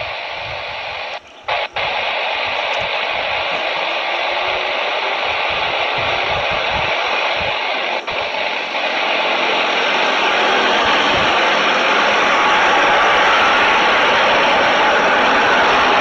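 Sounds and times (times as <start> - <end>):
jet engines rushing hiss: 0.0 - 16.0.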